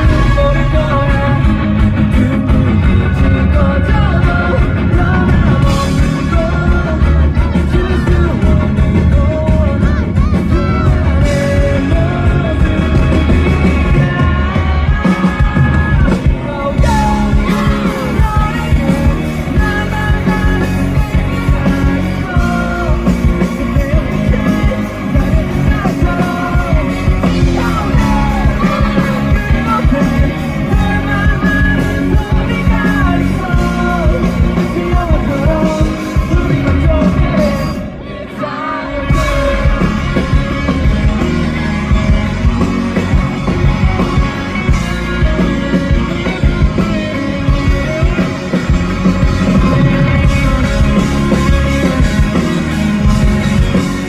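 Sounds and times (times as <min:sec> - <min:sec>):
lead vocalist singing: 0:00.0 - 0:54.0
rock band playing live: 0:00.0 - 0:54.0.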